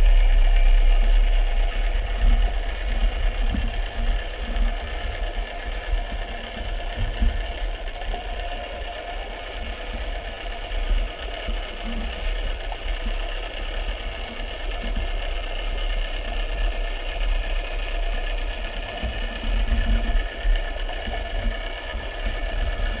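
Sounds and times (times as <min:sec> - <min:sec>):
small motor running: 0:00.0 - 0:23.0.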